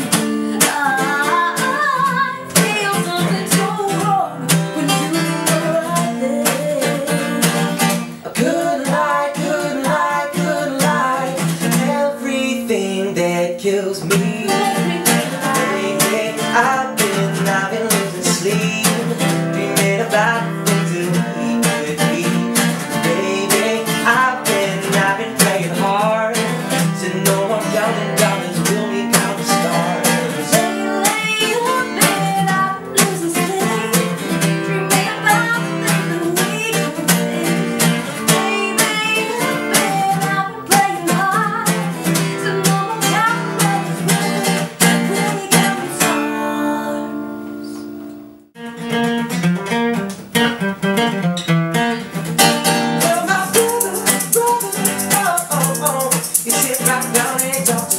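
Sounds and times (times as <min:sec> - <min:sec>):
acoustic guitar strumming chords: 0:00.0 - 0:57.9.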